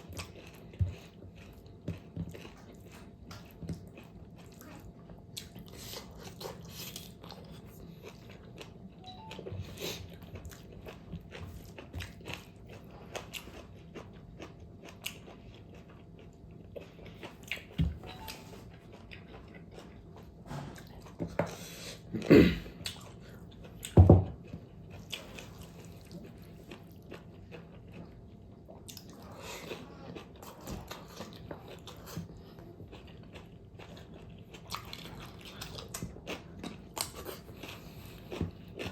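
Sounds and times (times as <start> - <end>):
chewing and biting: 0.0 - 21.7, 22.8 - 38.9.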